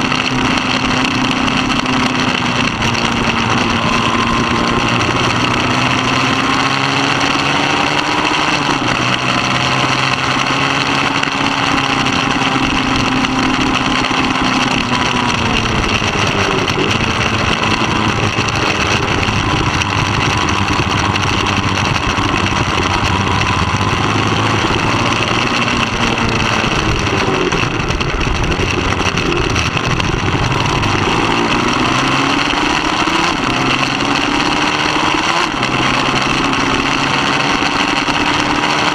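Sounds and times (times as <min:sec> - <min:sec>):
constant rushing noise: 0:00.0 - 0:38.9
racing motorcycle engine revving: 0:00.0 - 0:38.9.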